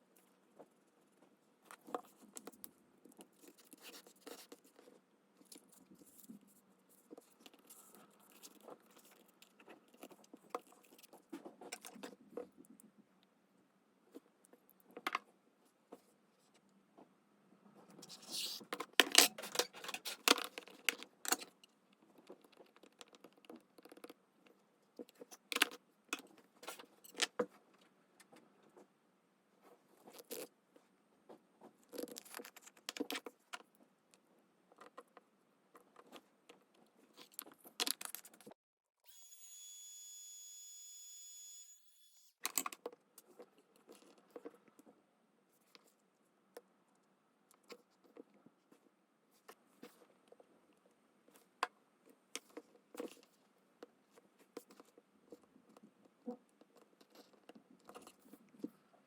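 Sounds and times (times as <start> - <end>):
hands handling craft materials: 0.0 - 13.4, 14.0 - 29.0, 29.6 - 38.6, 42.4 - 59.0.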